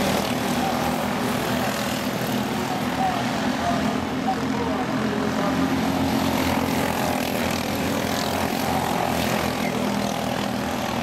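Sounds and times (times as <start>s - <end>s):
small race car engines droning: 0.0s - 11.0s.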